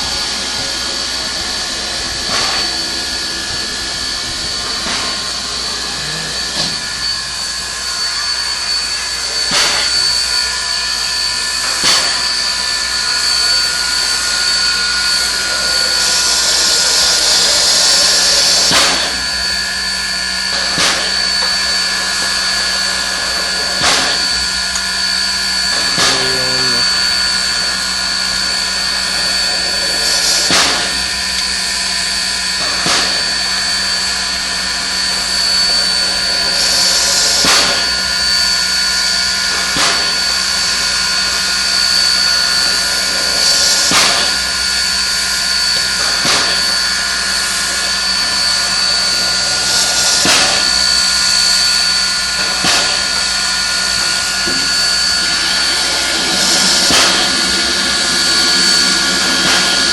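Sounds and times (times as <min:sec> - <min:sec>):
locomotive exhaust puffs: 0:00.0 - 0:59.9
steady high whine: 0:00.0 - 0:59.9
steam hissing: 0:00.0 - 0:59.9.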